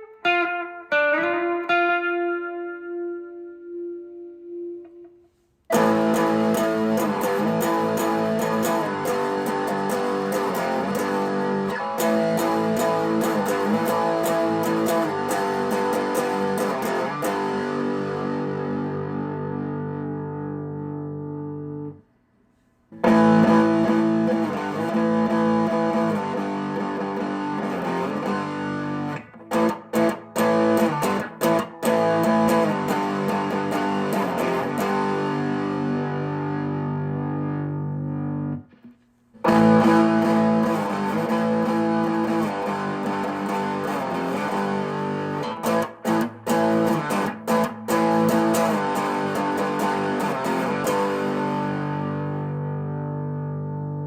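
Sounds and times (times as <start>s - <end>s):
electric guitar strumming: 0.0s - 22.0s, 22.9s - 54.0s.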